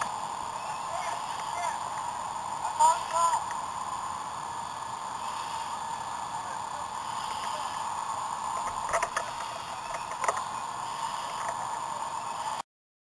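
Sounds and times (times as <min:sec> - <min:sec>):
noisy fireground background: 0:00.0 - 0:12.6.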